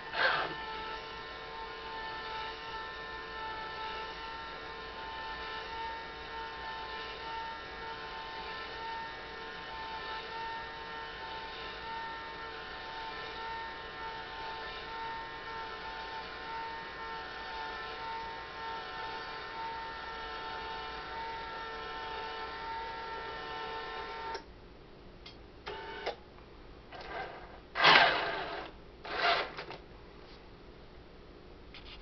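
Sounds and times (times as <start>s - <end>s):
small electric motor whining: 0.0s - 24.4s, 25.7s - 26.2s, 27.0s - 29.7s.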